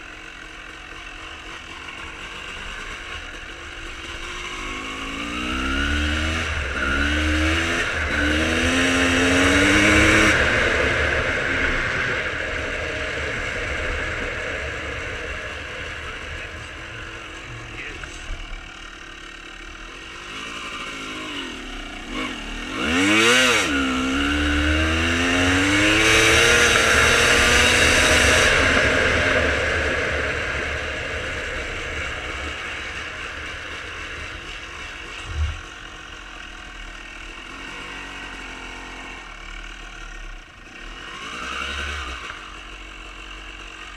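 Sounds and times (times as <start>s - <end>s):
two-stroke motorcycle engine revving: 0.0s - 43.9s.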